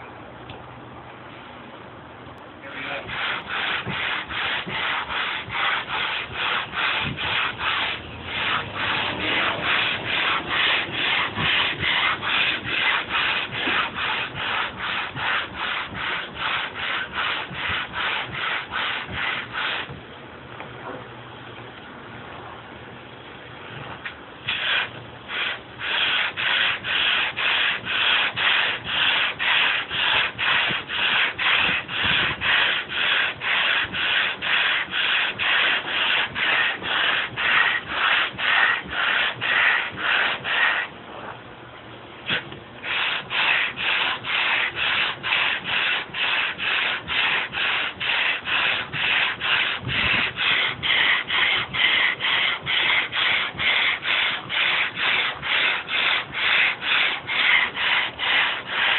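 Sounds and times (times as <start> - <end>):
sandpaper rubbing on wood: 2.6 - 20.0, 24.4 - 40.9, 42.2 - 58.9.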